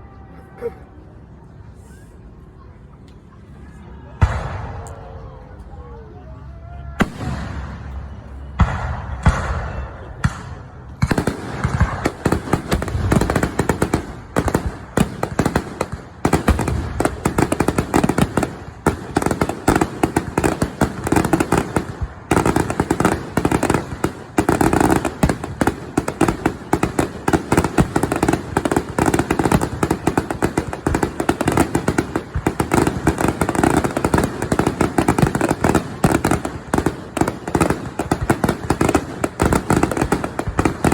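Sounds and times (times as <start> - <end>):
firework bangs and crackling: 4.2 - 5.2, 7.0 - 40.9
firework booms: 7.0 - 40.9.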